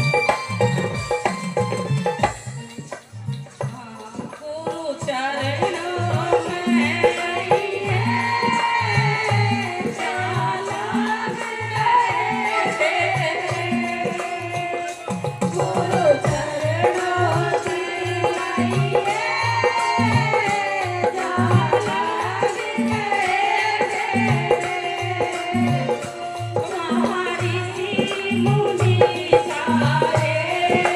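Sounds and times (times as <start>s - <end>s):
jingling percussion: 0.0s - 30.9s
person singing: 3.7s - 30.9s.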